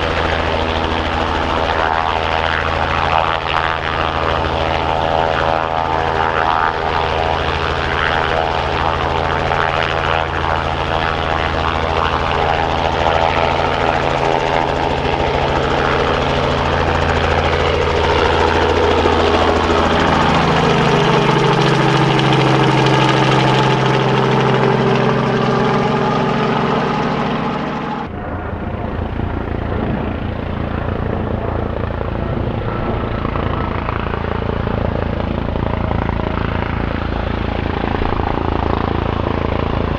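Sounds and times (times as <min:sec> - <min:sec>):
helicopter rotor chop: 0:00.0 - 0:39.9
helicopter turbine and rotor drone: 0:00.0 - 0:39.9.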